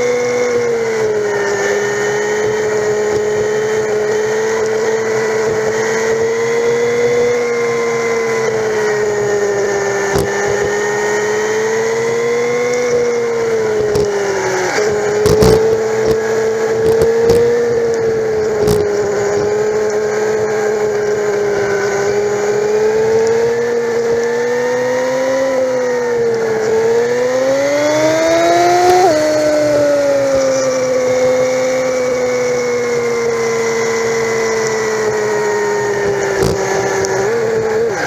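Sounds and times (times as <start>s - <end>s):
motorcycle engine droning: 0.0s - 38.0s.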